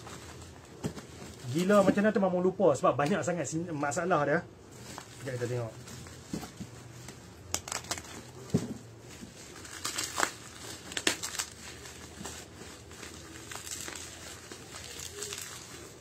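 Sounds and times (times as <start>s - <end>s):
bubble wrap crinkling: 0.0s - 2.2s, 4.7s - 16.0s.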